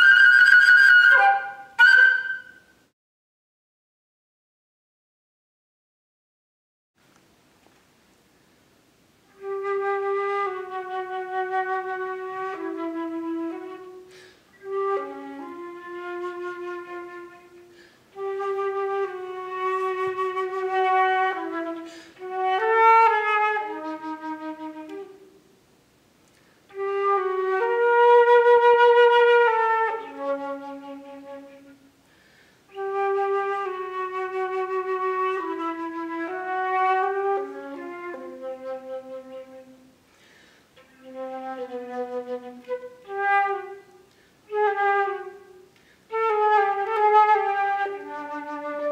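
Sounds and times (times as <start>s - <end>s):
flute playing low notes: 0.0s - 2.9s, 9.3s - 25.5s, 26.7s - 32.0s, 32.7s - 40.0s, 40.8s - 48.9s.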